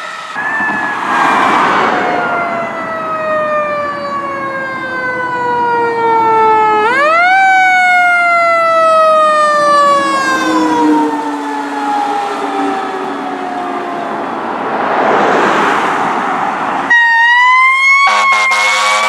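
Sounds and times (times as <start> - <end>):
fire truck siren wailing: 0.0 - 14.8, 16.9 - 19.0.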